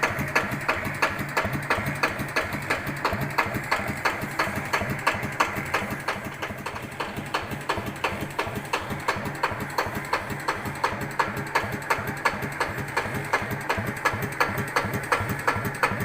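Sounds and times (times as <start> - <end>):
diesel engine idling with knock: 0.0 - 16.0.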